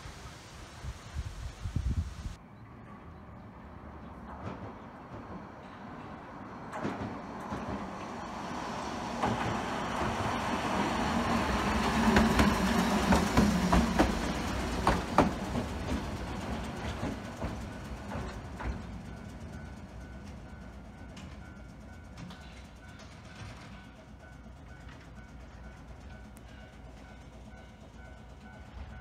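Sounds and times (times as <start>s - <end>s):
tram running hum: 1.1s - 29.0s
wheels clacking over rail joints: 4.0s - 27.8s.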